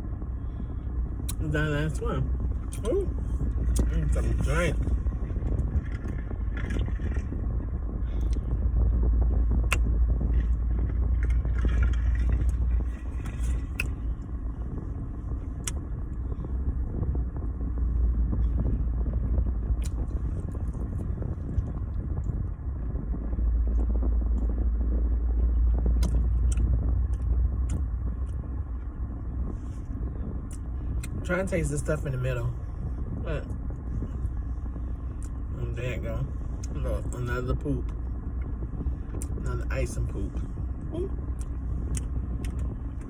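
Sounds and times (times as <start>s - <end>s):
low rumble: 0.0s - 43.0s.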